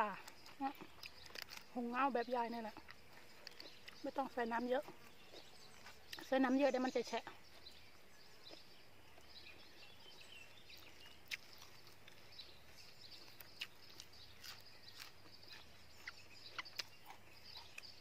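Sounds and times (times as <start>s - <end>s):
chewing crackles: 0.0s - 18.0s
faint high-pitched chirping: 0.0s - 18.0s.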